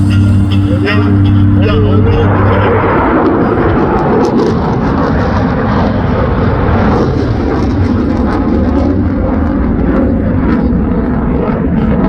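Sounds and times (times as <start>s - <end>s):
fighter jet flying past: 2.2s - 12.0s.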